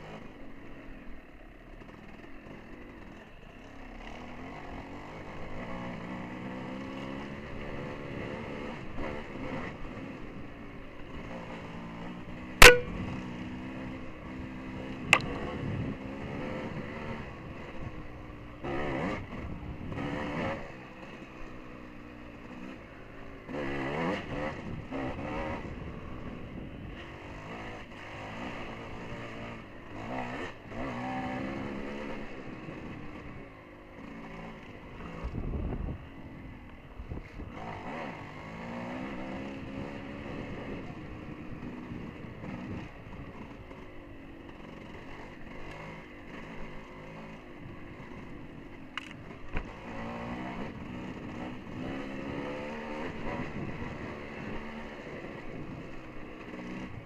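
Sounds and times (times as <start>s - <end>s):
dirt bike engine revving: 0.0s - 36.1s, 37.0s - 57.0s.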